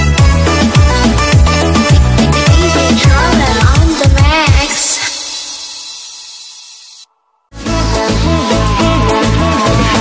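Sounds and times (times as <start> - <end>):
upbeat music with heavy bass: 0.0 - 5.8, 7.5 - 10.0.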